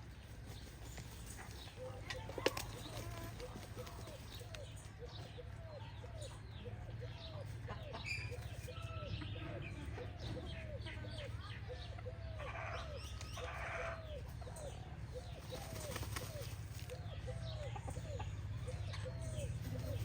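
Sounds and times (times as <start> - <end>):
chickens clucking: 0.1 - 20.0
chicks chirping: 0.2 - 20.0.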